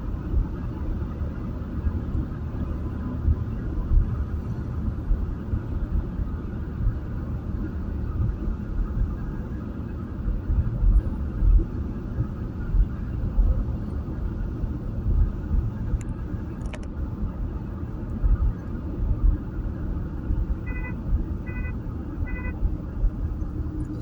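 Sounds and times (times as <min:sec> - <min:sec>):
road and engine rumble in car: 0:00.0 - 0:24.0.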